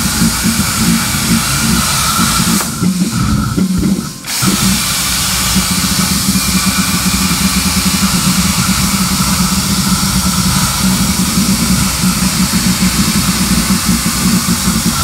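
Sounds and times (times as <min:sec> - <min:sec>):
buzzing hum: 0:00.0 - 0:15.0
plasma torch hissing: 0:00.0 - 0:15.0.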